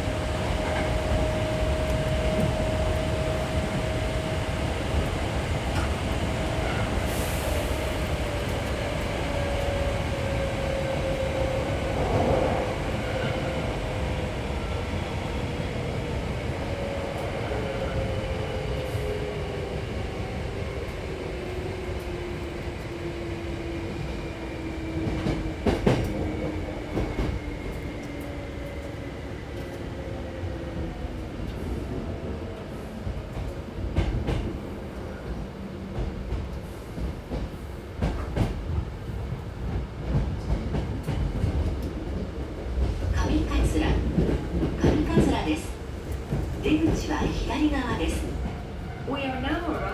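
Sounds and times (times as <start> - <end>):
train wheels rumbling on track: 0.0 - 49.9.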